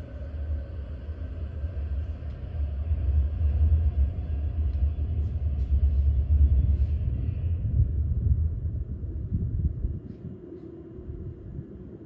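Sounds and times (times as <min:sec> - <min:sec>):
underground train rumbling: 0:00.0 - 0:12.0.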